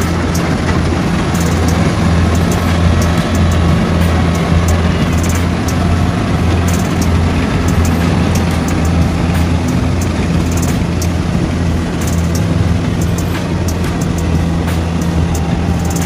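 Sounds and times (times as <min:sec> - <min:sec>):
combine harvester engine running: 0:00.0 - 0:16.0
threshing machinery working: 0:00.0 - 0:16.0.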